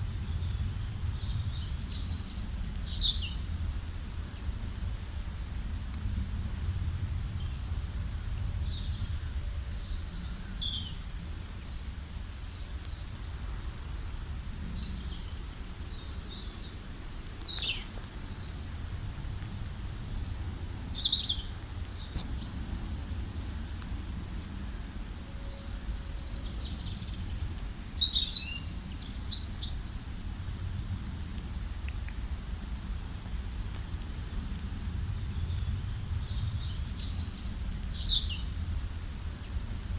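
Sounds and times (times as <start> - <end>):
low steady rumble: 0.0 - 39.9.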